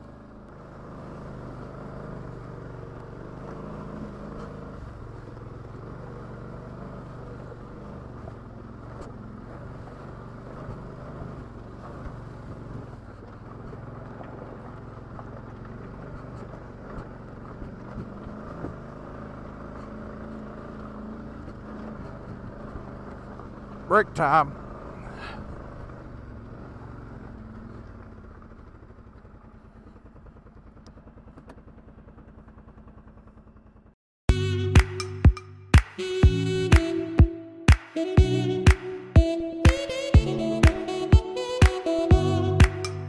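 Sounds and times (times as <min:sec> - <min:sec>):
engine running at low revs: 0:00.0 - 0:43.0.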